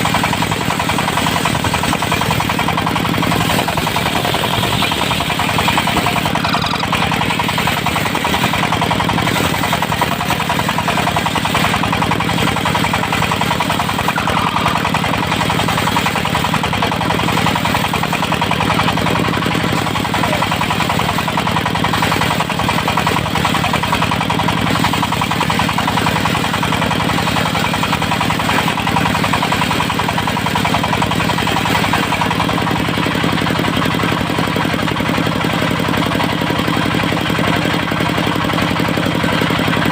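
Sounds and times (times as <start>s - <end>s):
diesel engine running loudly: 0.0s - 39.9s.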